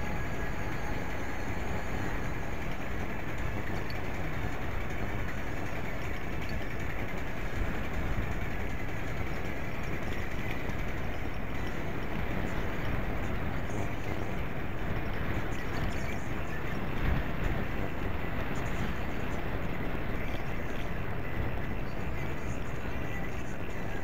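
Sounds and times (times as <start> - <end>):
road vibration: 0.0 - 24.0
wind rumble on microphone: 0.0 - 24.0.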